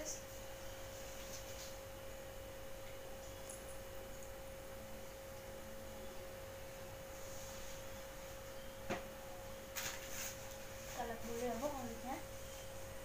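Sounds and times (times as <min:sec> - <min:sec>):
faint electrical tone: 0:00.0 - 0:13.0.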